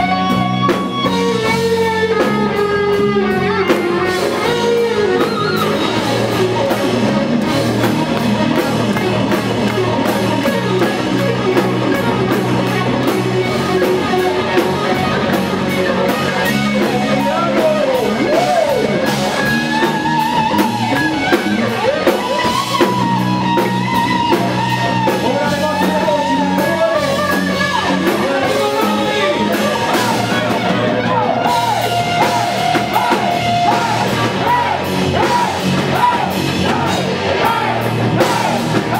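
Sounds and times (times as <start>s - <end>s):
bass guitar: 0.0s - 38.9s
drum kit beat: 0.0s - 38.9s
electric guitars: 0.0s - 38.9s
melodic guitar lead lines: 0.0s - 38.9s.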